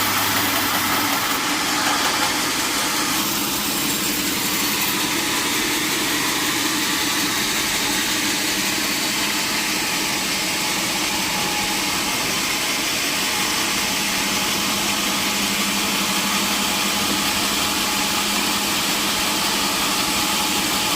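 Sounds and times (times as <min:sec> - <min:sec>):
sawmill machinery hum: 0:00.0 - 0:20.9.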